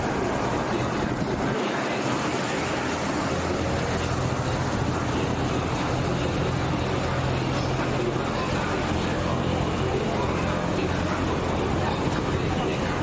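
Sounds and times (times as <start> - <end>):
boat engine humming: 0.0 - 13.0
constant rushing noise: 0.0 - 13.0.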